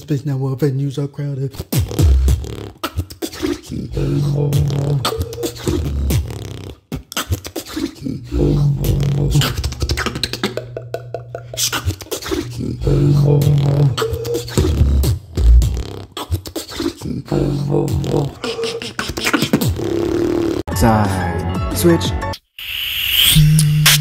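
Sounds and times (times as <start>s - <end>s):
beatboxed low bass notes: 1.5s - 20.6s, 23.4s - 24.0s
beatboxing percussion: 1.5s - 20.6s, 23.2s - 24.0s.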